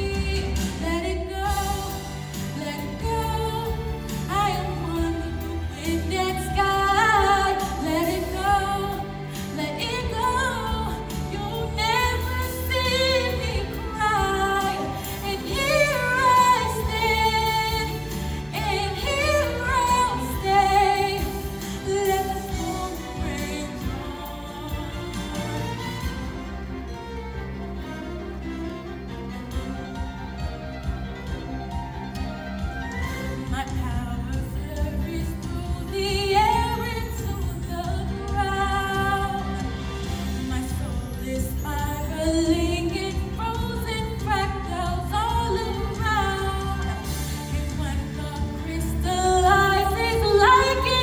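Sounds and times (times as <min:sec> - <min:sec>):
woman singing: 0:00.0 - 0:26.1, 0:33.2 - 0:51.0
sustained backing music: 0:00.0 - 0:51.0.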